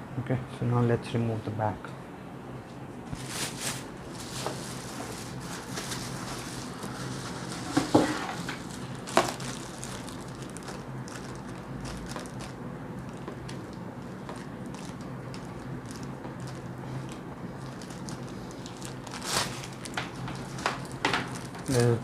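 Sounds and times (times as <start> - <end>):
plastic bag crinkling: 3.2 - 22.0.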